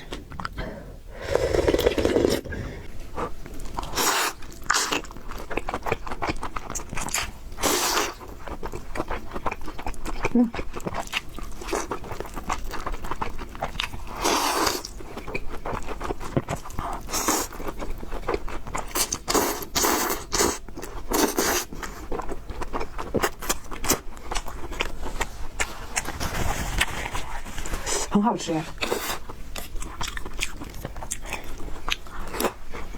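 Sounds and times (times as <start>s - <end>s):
person chewing noodles: 0.0s - 0.6s, 1.2s - 28.1s, 28.8s - 32.9s.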